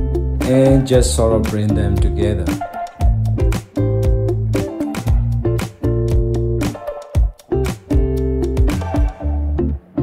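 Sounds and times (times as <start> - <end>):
bass line: 0.0 - 6.8, 7.5 - 10.0
steady beat: 0.0 - 9.4
plucked guitar: 0.0 - 10.0.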